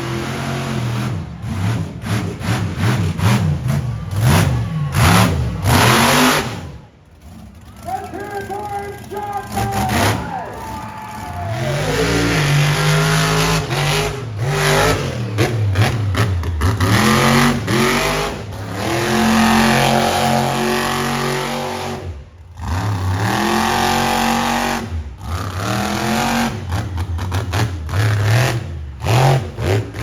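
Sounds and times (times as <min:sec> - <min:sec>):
truck engine revving hard: 0:00.0 - 0:07.7, 0:09.0 - 0:30.0.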